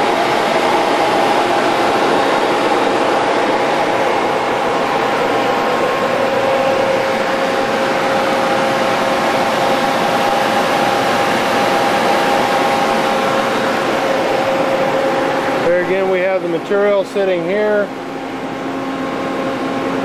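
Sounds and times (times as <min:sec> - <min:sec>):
constant whining tones: 0:00.0 - 0:20.0
factory machinery hum and hiss: 0:00.0 - 0:20.0.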